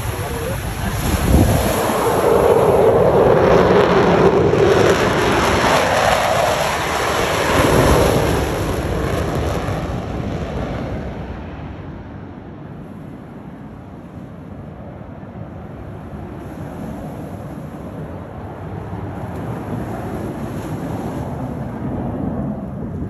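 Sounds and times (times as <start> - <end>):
jets roaring overhead: 0.0 - 23.0.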